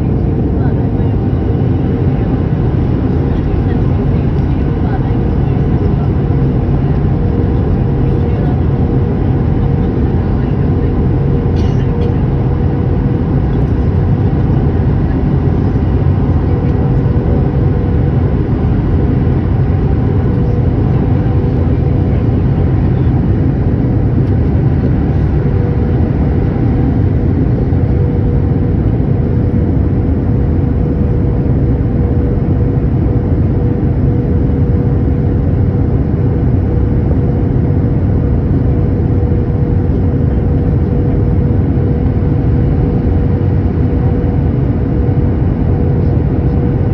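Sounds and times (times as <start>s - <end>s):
jet airliner cabin roar: 0.0s - 46.9s
mid-pitched hum: 0.0s - 46.9s.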